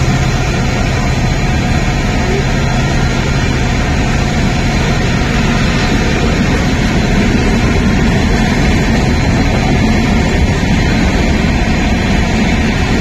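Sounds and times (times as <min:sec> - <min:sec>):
heavy rain hissing: 0:00.0 - 0:13.0
train coaches rolling past: 0:00.0 - 0:13.0.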